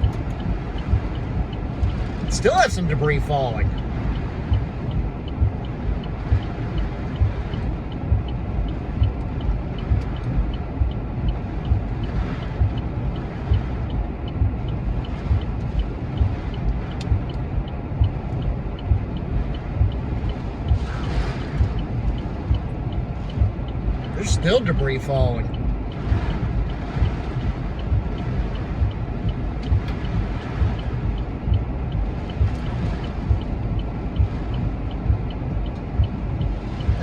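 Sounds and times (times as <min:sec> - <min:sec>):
gusts thumping on car: 0:00.0 - 0:37.0
wind rushing: 0:00.0 - 0:37.0.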